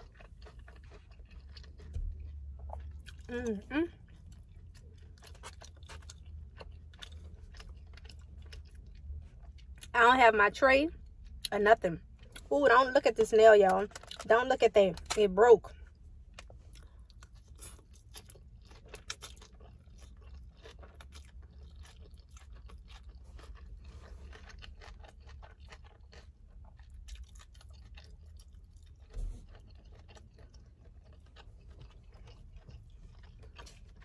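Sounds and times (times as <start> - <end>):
chewing with wet mouth clicks: 0.0 - 9.9, 15.9 - 34.0
low steady hum: 0.0 - 34.0.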